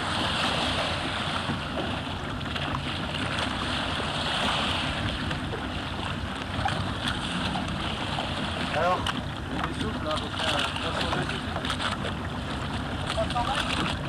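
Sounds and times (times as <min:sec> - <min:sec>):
boat engine rumble: 0:00.0 - 0:14.0
water rushing and splashing: 0:00.0 - 0:14.0
wind buffeting microphone: 0:00.0 - 0:14.0.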